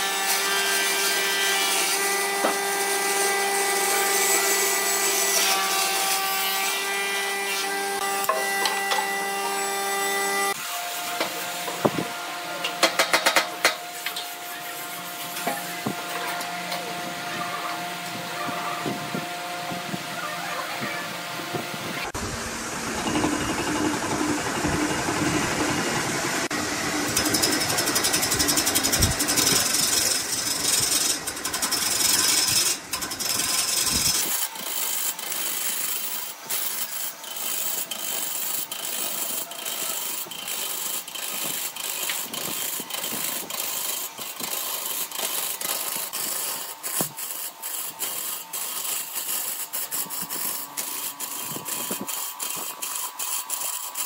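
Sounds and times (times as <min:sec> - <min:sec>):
lathe tool scraping wood: 0:00.0 - 0:20.2, 0:20.8 - 0:54.0.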